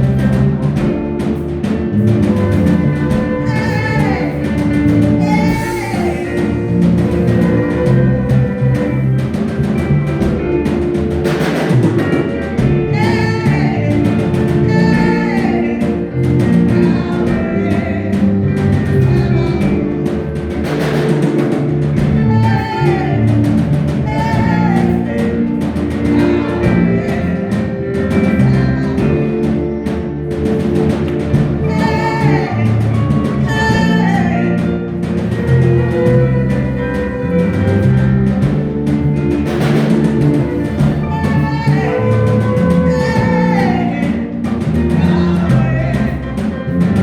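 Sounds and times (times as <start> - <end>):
gospel singing: 0.0 - 47.0
steady drum beat: 0.0 - 47.0.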